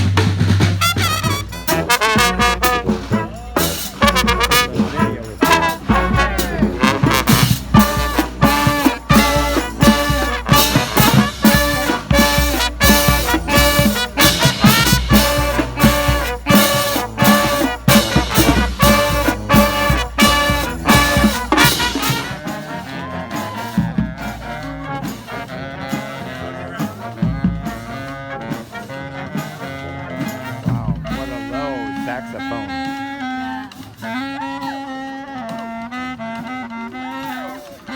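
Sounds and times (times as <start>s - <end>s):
brass band playing swing music: 0.0s - 37.9s.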